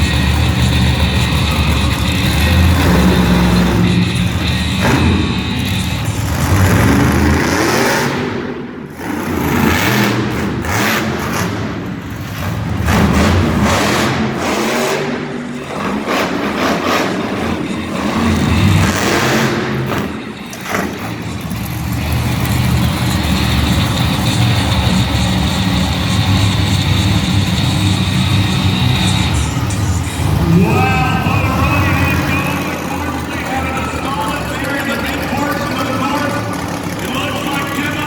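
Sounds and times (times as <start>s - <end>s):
truck engine revving: 0.0s - 38.0s.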